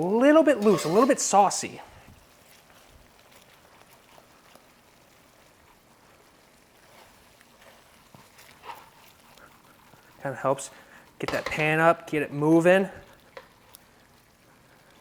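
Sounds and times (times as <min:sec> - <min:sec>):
food simmering in a pan: 0:00.0 - 0:15.0.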